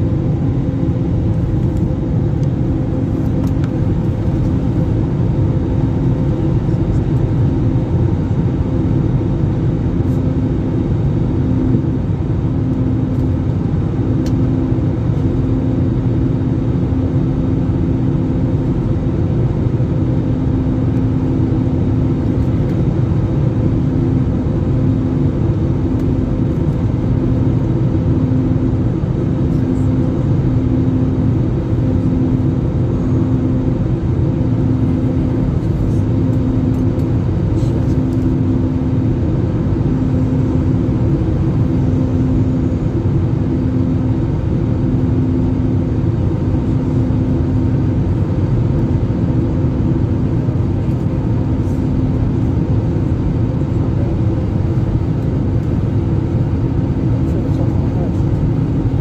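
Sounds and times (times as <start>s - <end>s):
engine and airflow rush: 0.0s - 59.0s
pulsing low hum: 0.0s - 59.0s.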